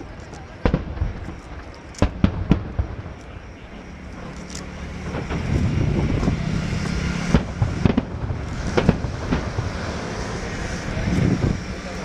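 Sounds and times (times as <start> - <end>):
fireworks booms and crackle: 0.0 - 12.0
sharp firework bangs: 0.4 - 12.0.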